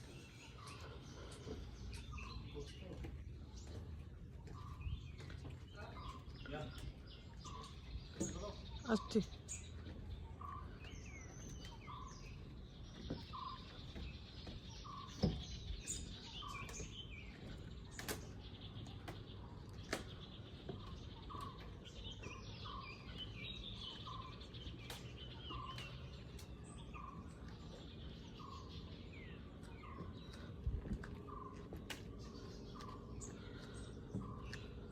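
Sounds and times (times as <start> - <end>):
chorus of high bird chirps: 0.0 - 34.9.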